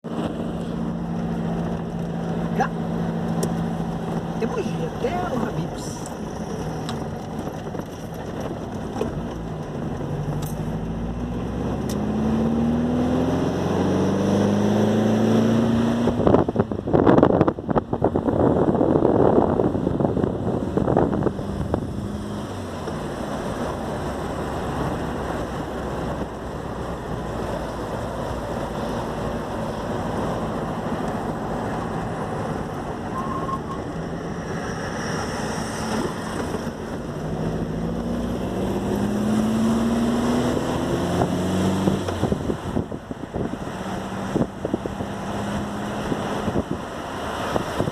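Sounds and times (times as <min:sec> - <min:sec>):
car engine running: 0:00.0 - 0:47.9
wind noise: 0:00.0 - 0:47.9.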